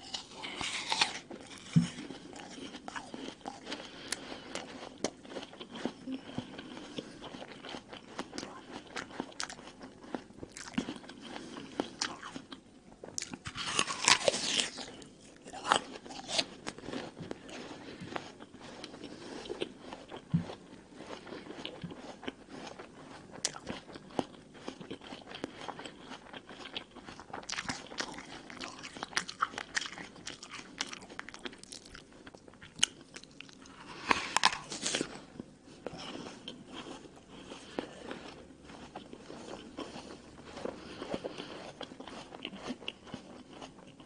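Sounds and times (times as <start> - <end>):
apple crunching when chewed: 0.0 - 44.0.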